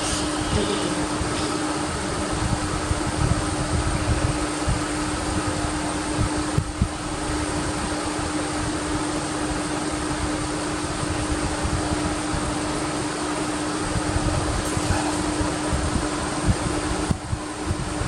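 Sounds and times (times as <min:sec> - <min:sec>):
whirring fan-like machine hum: 0:00.0 - 0:18.0.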